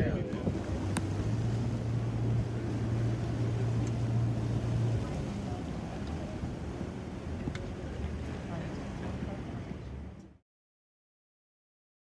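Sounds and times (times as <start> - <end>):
boat engine droning: 0.0 - 10.4
water noise: 0.0 - 10.4
wind: 0.0 - 10.4.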